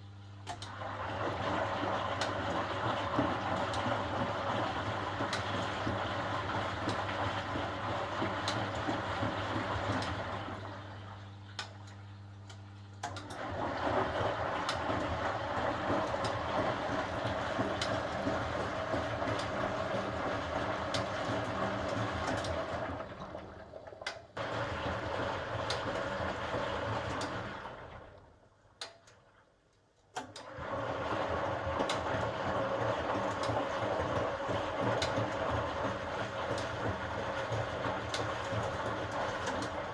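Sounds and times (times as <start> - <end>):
washing machine running: 0.0 - 29.3, 30.1 - 39.9.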